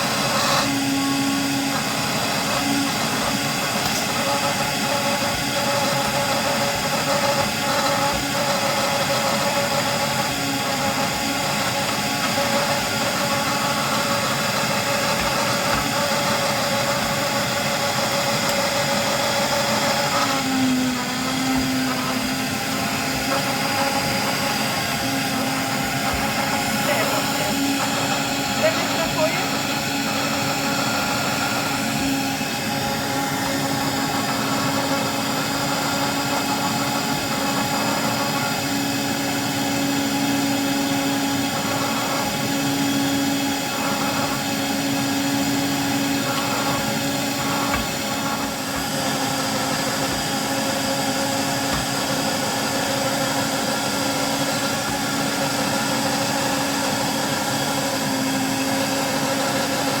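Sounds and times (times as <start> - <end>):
small electric motor whirring: 0.0 - 60.0.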